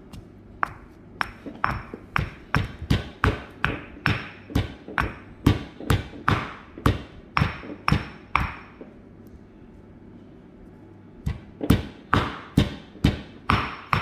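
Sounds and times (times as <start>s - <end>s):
pestle pounding in a mortar: 0.0s - 8.8s, 11.2s - 14.0s.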